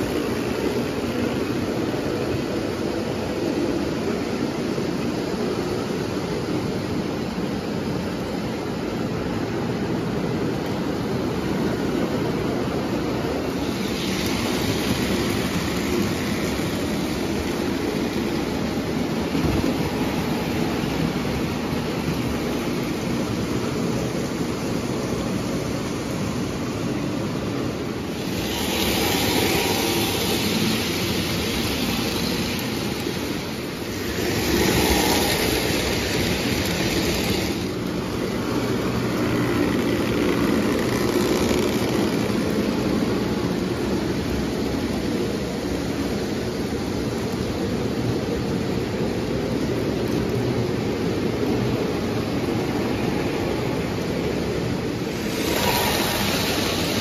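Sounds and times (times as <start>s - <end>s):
hiss: 0.0s - 57.0s
model trains rolling on track: 0.0s - 57.0s.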